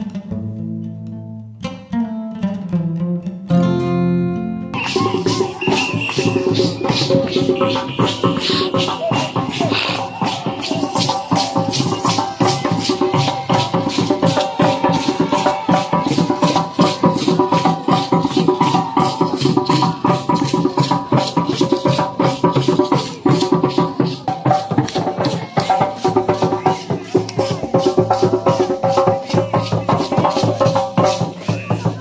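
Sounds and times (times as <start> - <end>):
shakers in steady rhythm: 4.8 - 32.0.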